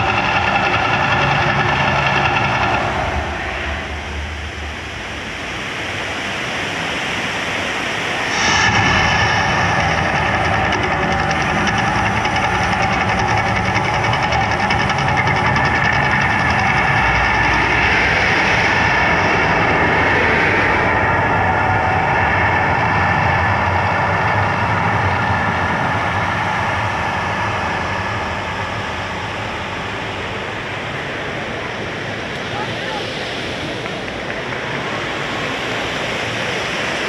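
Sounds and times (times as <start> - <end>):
rumbling roar of fire effects: 0.0 - 6.3, 8.0 - 32.3.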